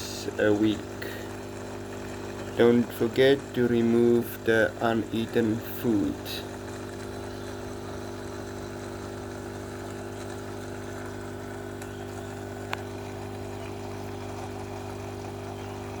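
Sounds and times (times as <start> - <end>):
aquarium equipment humming: 0.0 - 16.0.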